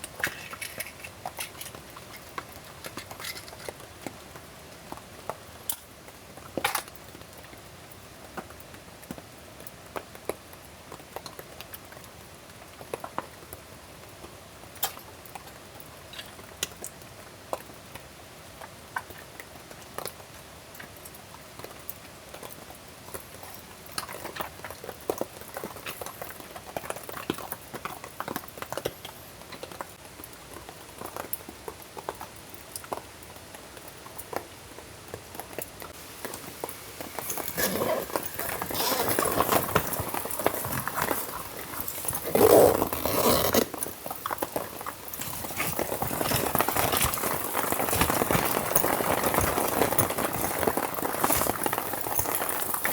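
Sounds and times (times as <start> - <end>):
rain pattering: 0.0 - 52.9.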